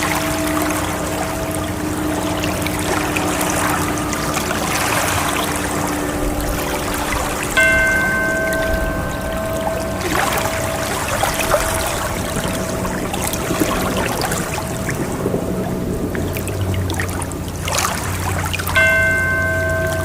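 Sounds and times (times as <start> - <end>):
struck chime ringing: 0.0 - 16.1, 18.8 - 20.0
ocean waves washing: 0.0 - 20.0.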